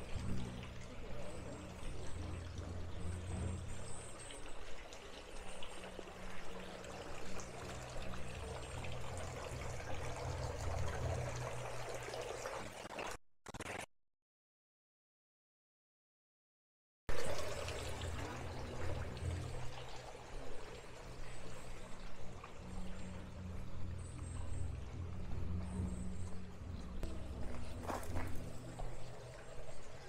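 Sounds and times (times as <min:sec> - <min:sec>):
low steady hum: 0:00.0 - 0:12.6, 0:17.1 - 0:30.0
water splashing into fountain basin: 0:00.0 - 0:13.2, 0:17.1 - 0:30.0.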